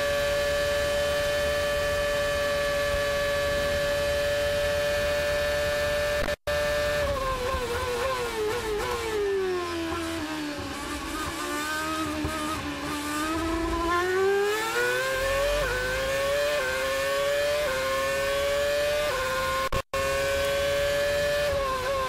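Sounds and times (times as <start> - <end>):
racing car engine accelerating: 0.0 - 22.0.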